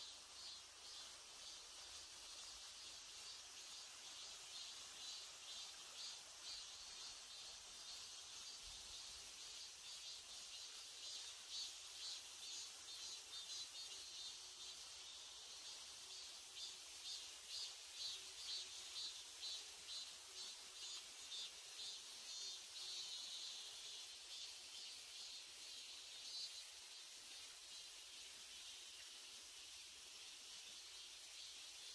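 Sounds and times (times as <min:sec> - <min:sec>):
insects chirring: 0:00.0 - 0:31.9.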